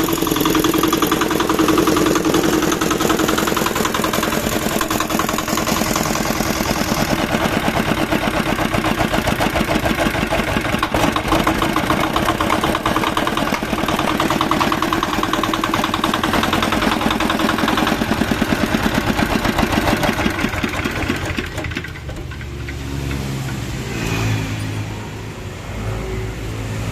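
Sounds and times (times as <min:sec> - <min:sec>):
diesel engine chugging: 0:00.0 - 0:22.8.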